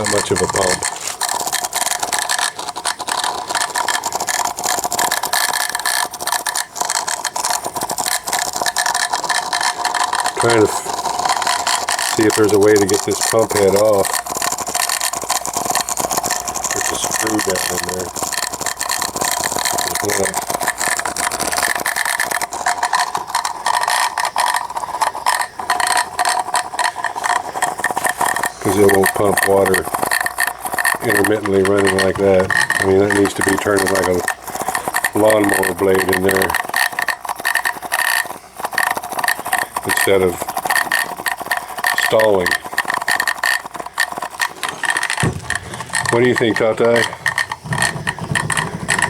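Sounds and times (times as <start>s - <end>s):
electric water pump rattling hum: 0.0s - 49.0s.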